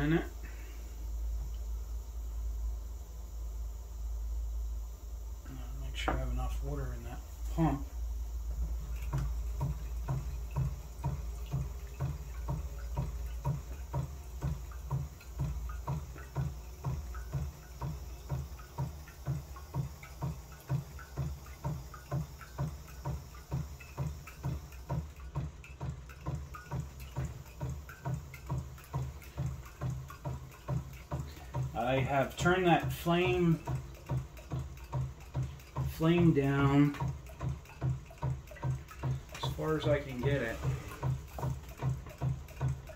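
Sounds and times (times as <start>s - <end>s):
hot-air engine rhythmic thumps: 0.0s - 42.9s
water trickling into a jar: 5.4s - 42.9s.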